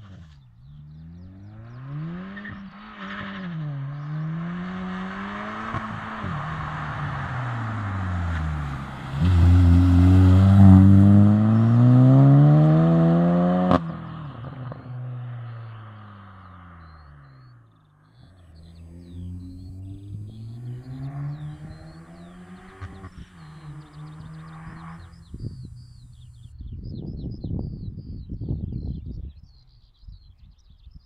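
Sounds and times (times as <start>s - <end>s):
car engine revving: 0.0s - 26.4s.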